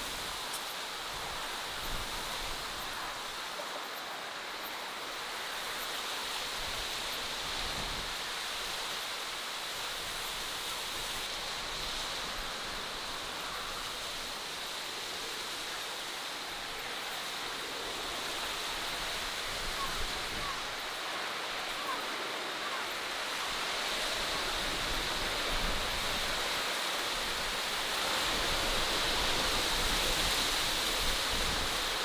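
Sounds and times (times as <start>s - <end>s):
outdoor ambient hiss: 0.0s - 32.0s.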